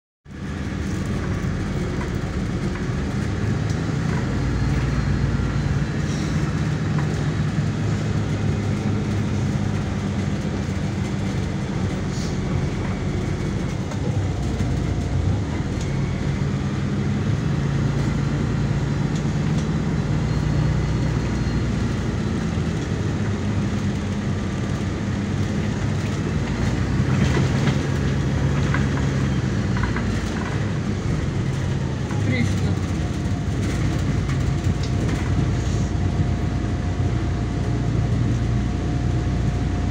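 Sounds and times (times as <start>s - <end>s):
road rumble: 0.2s - 39.9s
bus engine hum: 0.3s - 39.9s.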